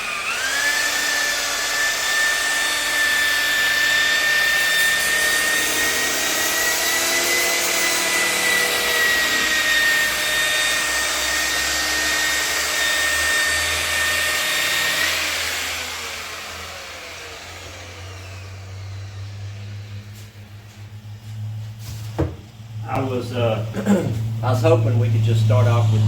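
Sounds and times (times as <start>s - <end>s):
electric polisher whining: 0.0s - 21.8s, 22.6s - 26.0s.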